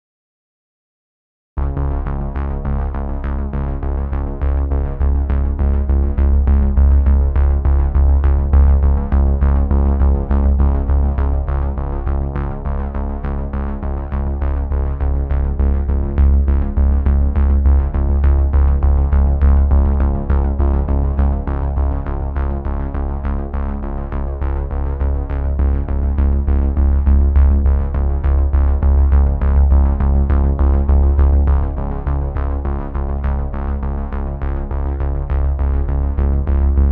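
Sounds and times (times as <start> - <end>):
synthesizer music with bass beat: 3.9 - 36.9.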